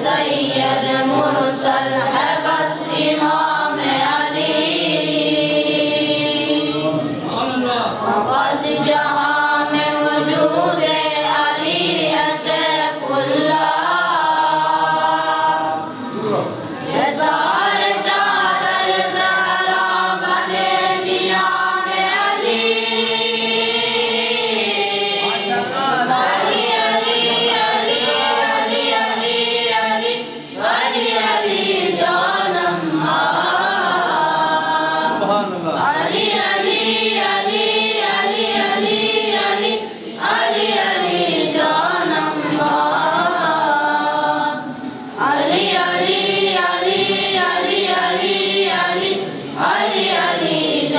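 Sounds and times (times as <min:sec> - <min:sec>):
boys singing in unison: 0:00.0 - 0:50.9.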